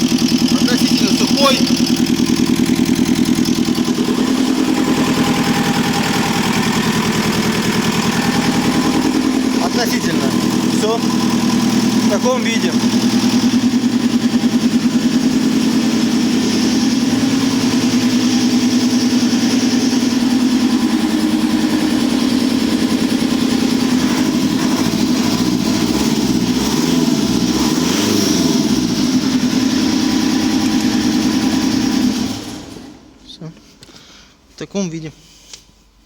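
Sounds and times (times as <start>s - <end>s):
diesel engine running: 0.0s - 33.2s.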